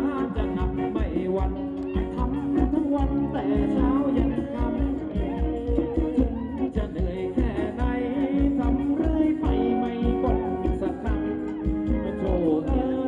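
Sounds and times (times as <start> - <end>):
live band dance music: 0.0 - 13.0
person singing: 0.0 - 13.0
steady drum beat: 0.0 - 13.0.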